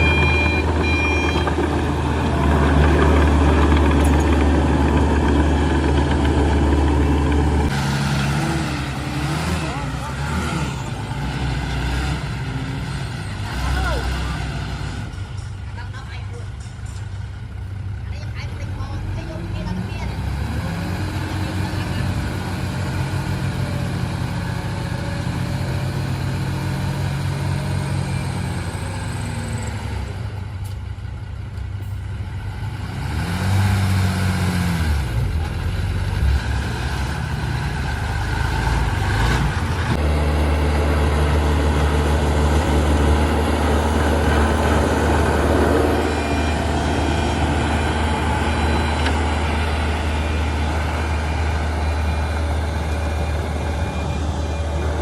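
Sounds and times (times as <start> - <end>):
heavy diesel engine revving: 0.0 - 15.4, 18.1 - 30.5, 32.5 - 55.0.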